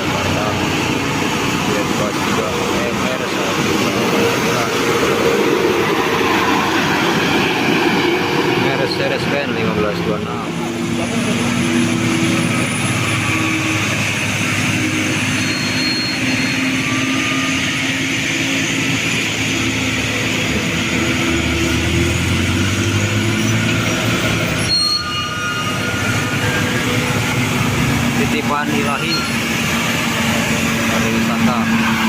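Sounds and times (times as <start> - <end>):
bus diesel engine running: 0.0 - 32.0
tyre and road noise: 0.0 - 32.0.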